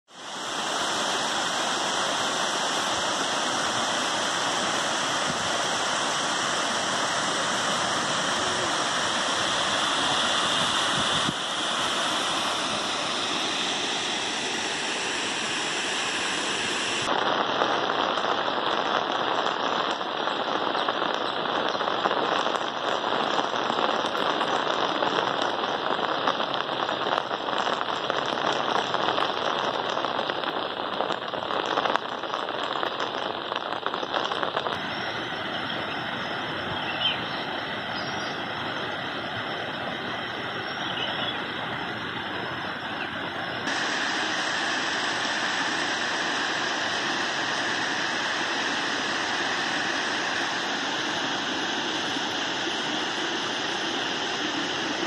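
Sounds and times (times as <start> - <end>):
heavy rain: 0.1 - 55.0.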